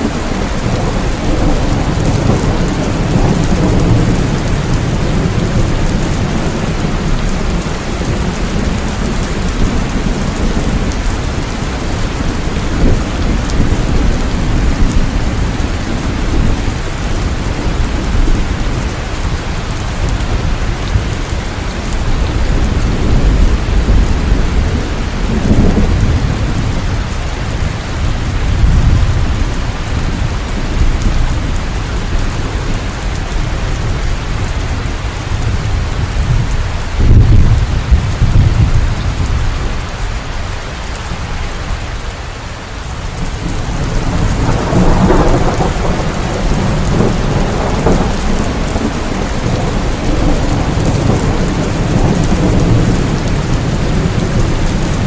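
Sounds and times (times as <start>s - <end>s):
rolling thunder: 0.0s - 40.0s, 43.1s - 55.0s
heavy rain: 0.0s - 55.0s.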